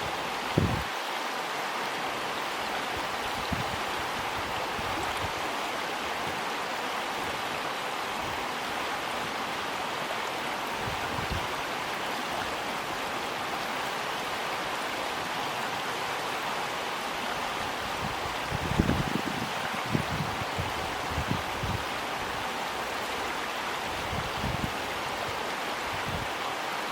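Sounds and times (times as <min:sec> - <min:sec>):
river water rushing: 0:00.0 - 0:26.9.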